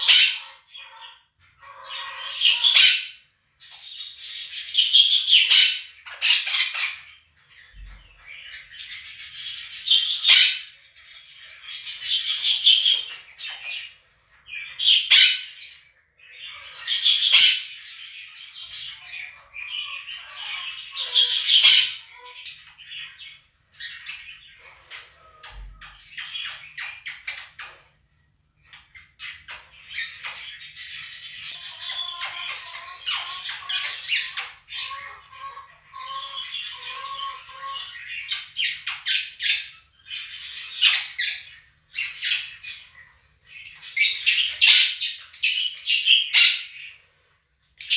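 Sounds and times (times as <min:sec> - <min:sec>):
parrots screeching: 0:00.0 - 0:07.2, 0:08.4 - 0:10.8, 0:11.4 - 0:13.9, 0:14.5 - 0:27.6, 0:28.7 - 0:42.9, 0:43.6 - 0:47.0
budgerigar flock chirping: 0:00.0 - 0:13.9, 0:14.5 - 0:27.9, 0:28.6 - 0:47.0.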